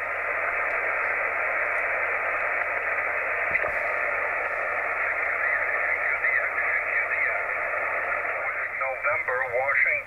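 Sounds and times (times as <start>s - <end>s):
radio receiver hiss: 0.0s - 10.0s.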